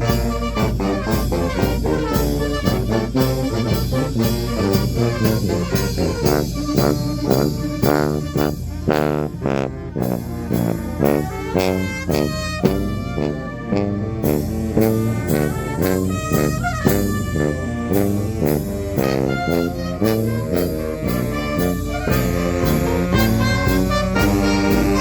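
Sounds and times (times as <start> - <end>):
drums beating: 0.0 - 13.6, 14.2 - 25.0
trumpets and trombones: 0.0 - 25.0.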